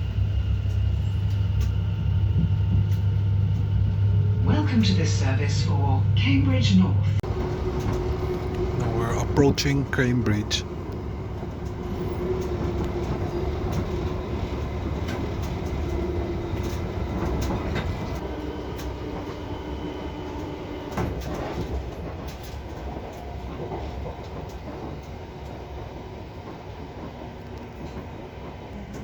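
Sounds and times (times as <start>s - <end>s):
train rumble from inside carriage: 0.0s - 29.0s.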